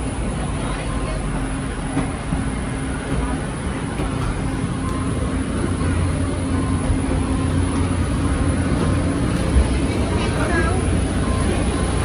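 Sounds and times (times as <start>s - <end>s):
airliner air systems humming: 0.0s - 12.0s
constant droning tone: 0.0s - 12.0s.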